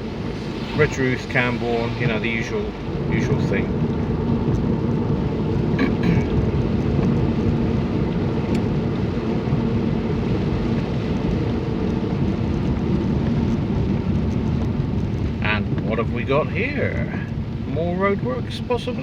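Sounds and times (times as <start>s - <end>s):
rain on car: 0.0s - 19.0s
road and engine rumble: 0.0s - 19.0s.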